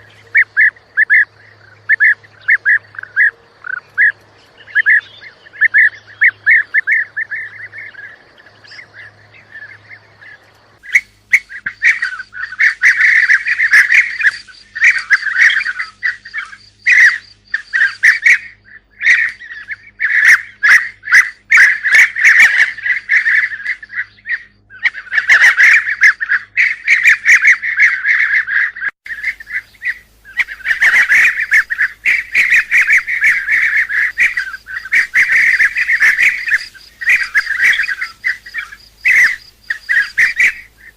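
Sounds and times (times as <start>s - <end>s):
birds rolling trilled calls: 0.0s - 40.9s.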